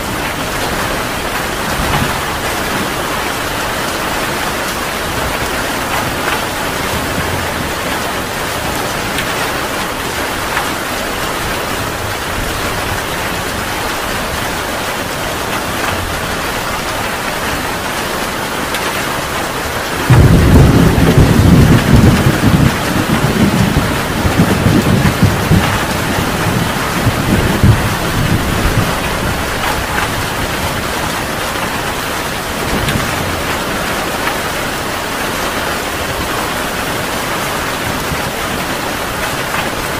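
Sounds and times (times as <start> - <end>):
heavy rain: 0.0 - 39.9
thunder clap and rumble: 0.0 - 39.9.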